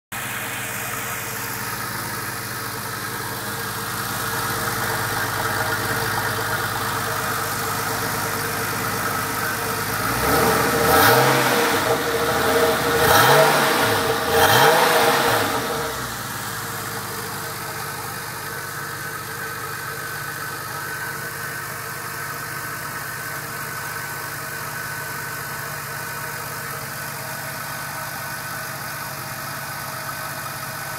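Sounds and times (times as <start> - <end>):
car engine idling and revving: 0.1 - 30.9.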